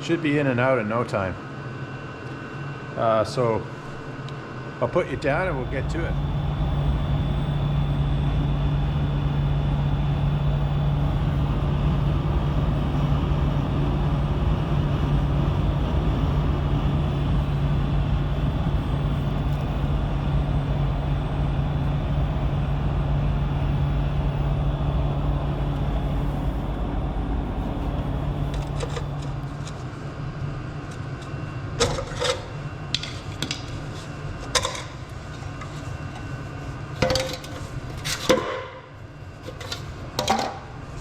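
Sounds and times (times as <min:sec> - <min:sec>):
low mechanical hum: 0:03.6 - 0:41.0.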